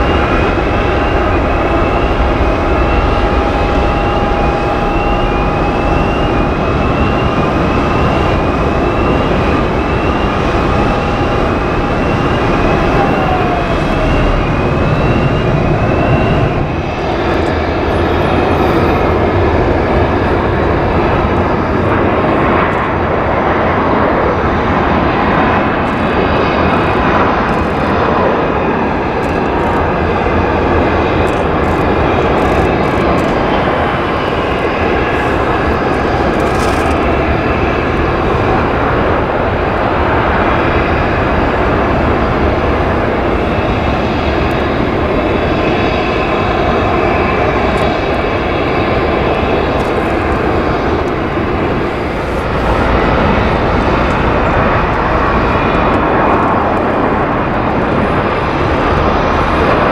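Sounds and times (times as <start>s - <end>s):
faint engine whine: 0.0s - 59.9s
jet airliner landing: 0.0s - 59.9s.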